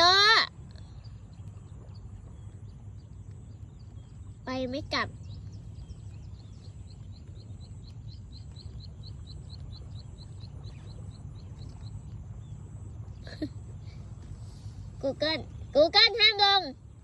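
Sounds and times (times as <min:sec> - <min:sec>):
bird chirping: 0:00.0 - 0:17.0
low outdoor rumble: 0:00.0 - 0:17.0.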